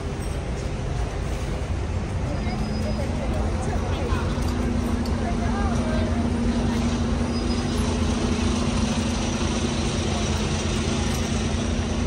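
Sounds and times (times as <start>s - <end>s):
low engine hum: 0.0s - 12.0s
street traffic rumble: 0.0s - 12.0s.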